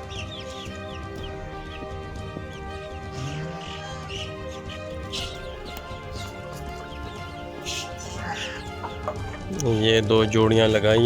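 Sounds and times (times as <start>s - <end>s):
music with long held notes: 0.0s - 11.0s
small birds chirping: 0.0s - 11.0s.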